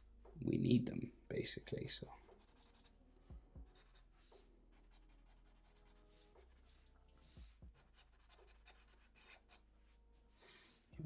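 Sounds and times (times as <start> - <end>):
marker pen scratching on paper: 1.9 - 10.8.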